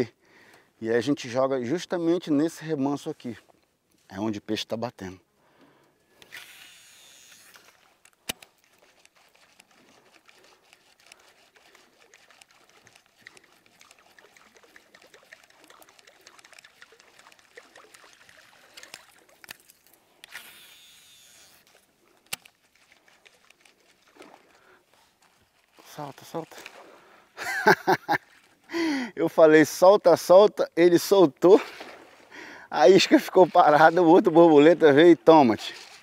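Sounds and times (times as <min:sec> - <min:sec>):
trickling river water: 0:05.6 - 0:36.0.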